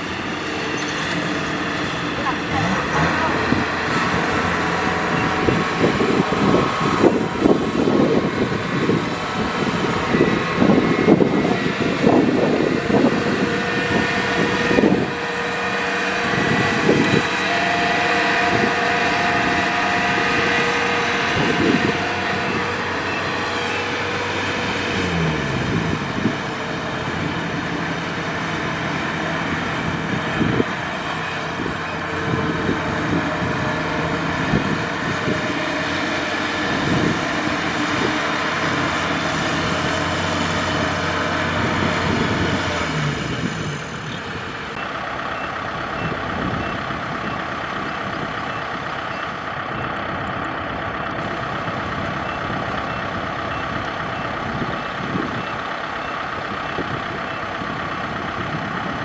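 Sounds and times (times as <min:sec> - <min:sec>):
diesel farm machinery running: 0:00.0 - 0:59.0.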